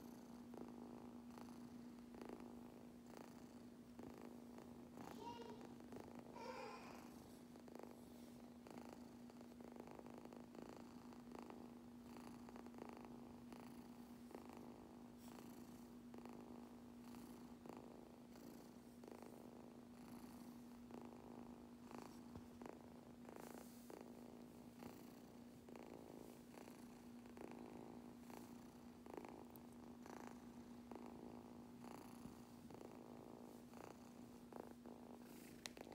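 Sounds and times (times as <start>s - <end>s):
kitten purring: 0.0s - 35.9s.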